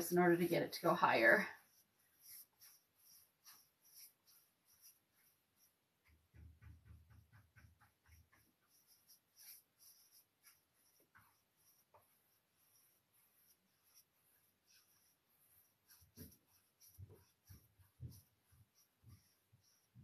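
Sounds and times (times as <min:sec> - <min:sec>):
paintbrush strokes on wood: 0:00.0 - 0:20.0.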